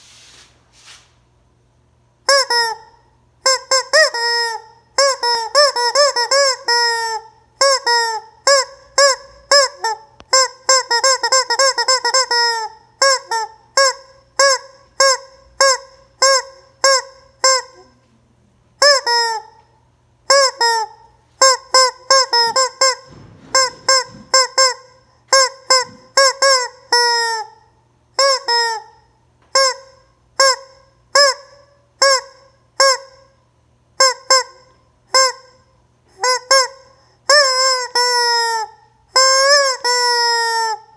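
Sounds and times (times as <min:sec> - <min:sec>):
faint low hum: 0:00.0 - 0:40.9
rubber chicken toy squawking: 0:02.3 - 0:17.9, 0:18.8 - 0:19.6, 0:20.3 - 0:27.6, 0:28.2 - 0:29.0, 0:29.6 - 0:33.2, 0:36.2 - 0:40.9.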